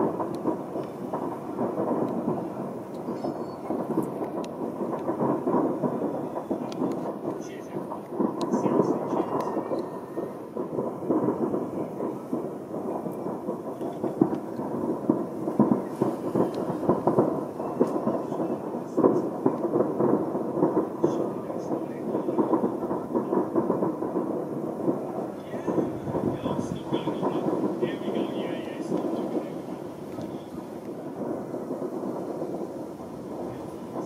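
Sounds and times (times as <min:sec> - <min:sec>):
distant fireworks crackling: 0:00.0 - 0:34.0.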